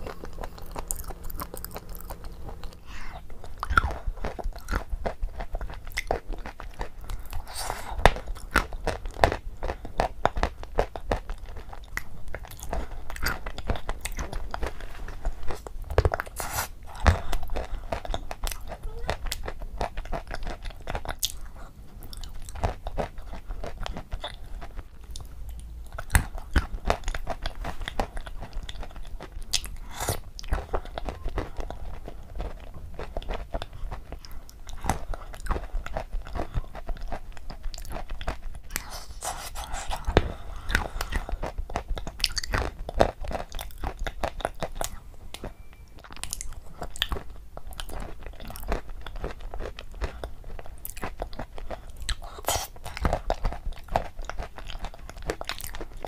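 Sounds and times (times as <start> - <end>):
wet chewing and lip smacking: 0.0 - 56.0.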